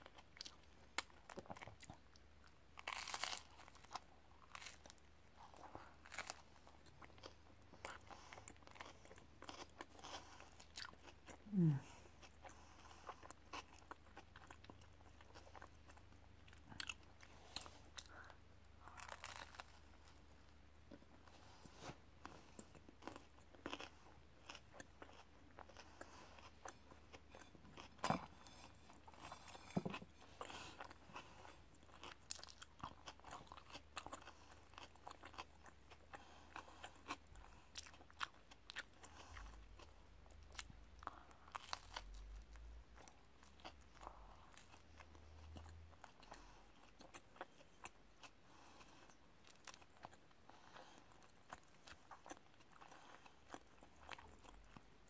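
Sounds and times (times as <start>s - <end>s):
crunchy chewing: 0.0s - 20.3s, 22.2s - 55.0s.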